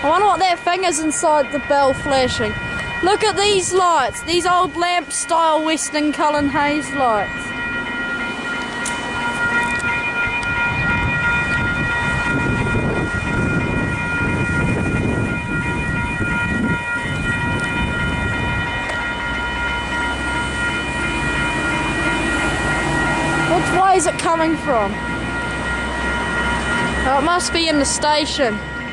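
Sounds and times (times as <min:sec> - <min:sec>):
level crossing bell ringing: 0:00.0 - 0:28.9.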